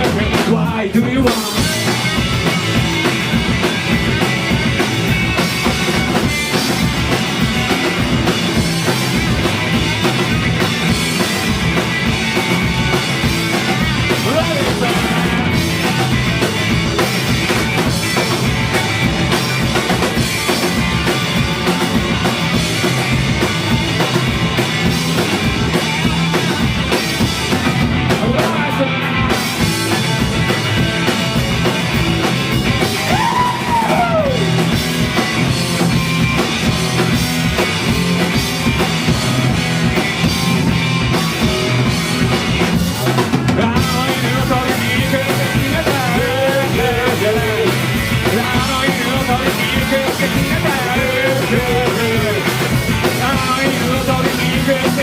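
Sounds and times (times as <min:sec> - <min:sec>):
live punk rock band: 0:00.0 - 0:55.0.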